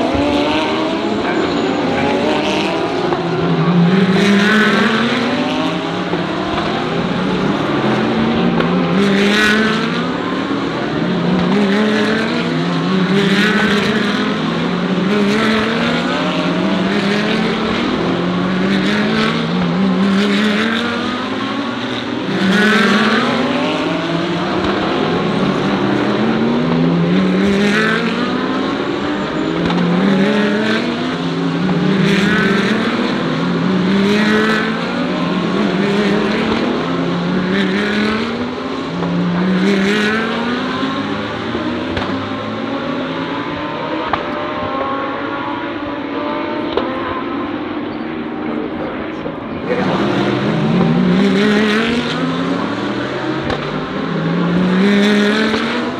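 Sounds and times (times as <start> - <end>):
race cars accelerating: 0.0 - 55.9.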